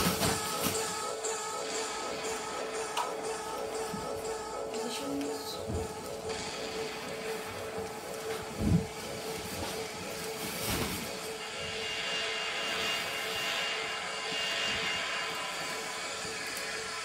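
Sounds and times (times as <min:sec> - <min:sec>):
battery fans whirring: 0:00.0 - 0:17.0
higher whine: 0:00.0 - 0:17.0.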